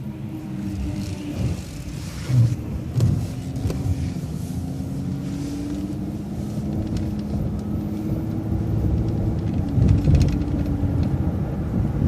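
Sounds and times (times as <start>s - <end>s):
bus engine and road rumble: 0.0s - 12.0s
drivetrain whine: 0.0s - 12.0s.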